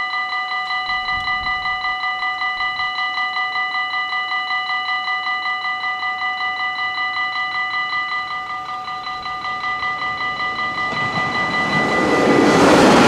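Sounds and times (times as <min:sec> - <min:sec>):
level crossing warning bell: 0:00.0 - 0:13.0.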